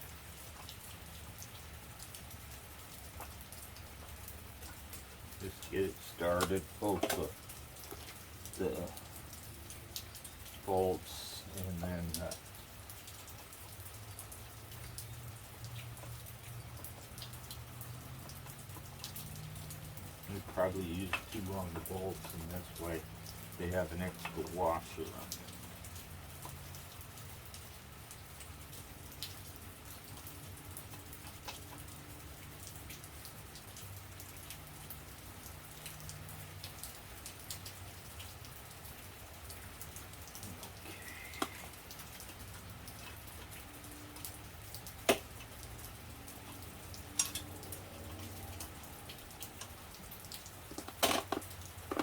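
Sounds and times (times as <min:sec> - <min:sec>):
rain patter: 0:00.0 - 0:52.0.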